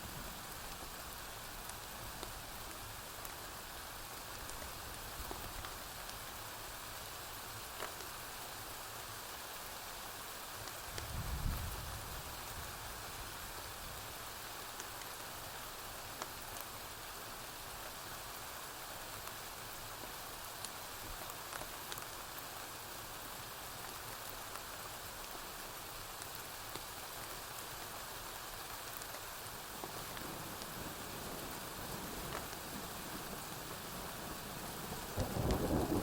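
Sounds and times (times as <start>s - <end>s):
rain falling on a roof: 0.0s - 36.0s.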